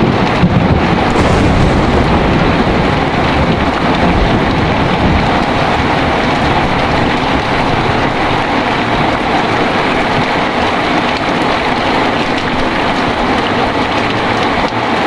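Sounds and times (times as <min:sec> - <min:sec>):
low thunder rumbling: 0:00.0 - 0:14.7
heavy rain falling: 0:00.0 - 0:15.0.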